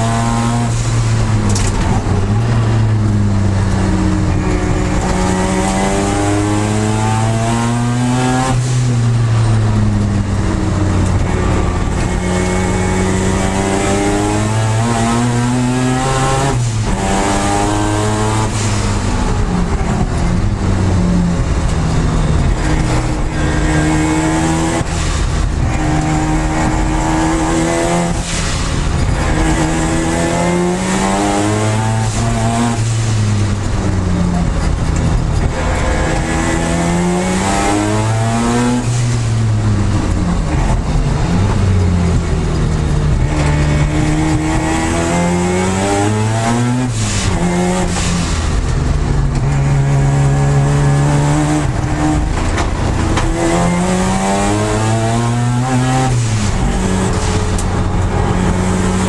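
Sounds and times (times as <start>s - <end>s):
race car engine revving: 0.0s - 59.0s
wind noise: 0.0s - 59.0s.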